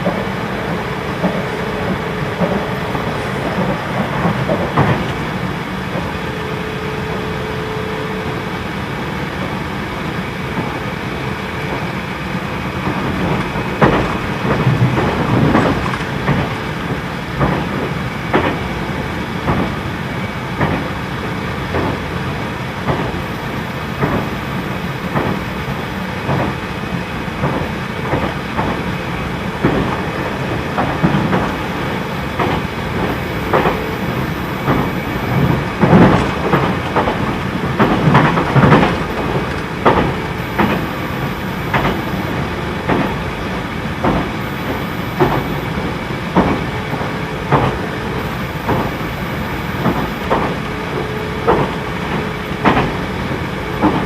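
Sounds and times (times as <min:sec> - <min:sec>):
train running noise: 0:00.0 - 0:54.0
train wheels clicking over rail joints: 0:00.0 - 0:54.0.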